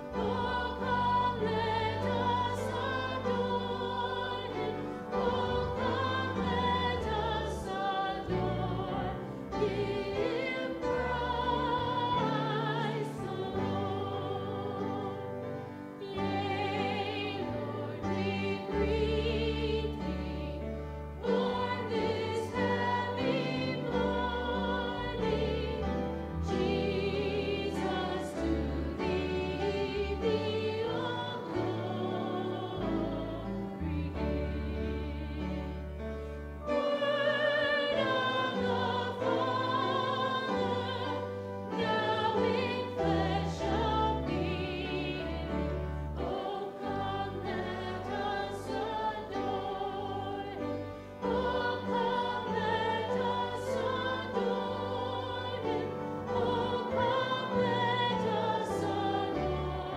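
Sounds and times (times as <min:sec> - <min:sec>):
choir singing with vibrato: 0:00.0 - 0:59.9.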